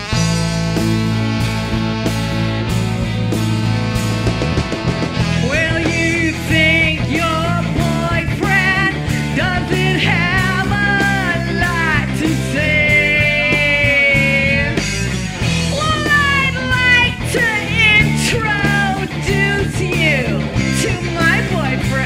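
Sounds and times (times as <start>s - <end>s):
bending lead melody: 0.0s - 22.0s
live rock band playing: 0.0s - 22.0s.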